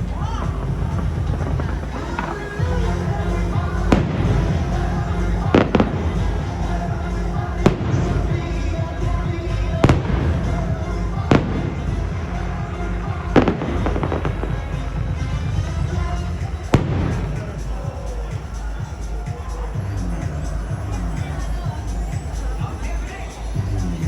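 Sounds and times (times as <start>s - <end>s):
fireworks bangs: 0.0s - 23.8s
soundtrack music: 0.0s - 24.0s.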